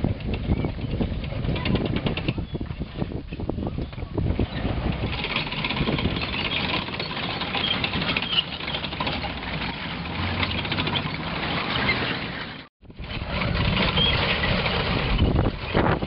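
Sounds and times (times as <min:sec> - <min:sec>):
tank engines running: 0:00.0 - 0:16.0.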